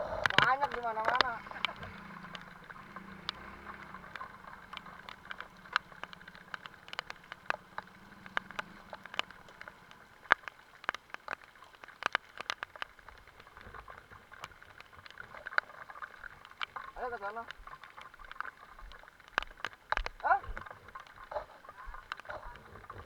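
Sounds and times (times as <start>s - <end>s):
rain hiss: 0.0s - 23.0s
raindrops ticking on microphone: 0.0s - 23.0s.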